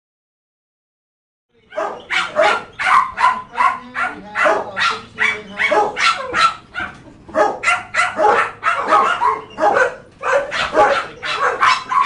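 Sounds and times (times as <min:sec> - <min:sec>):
dogs barking: 0:01.6 - 0:12.0.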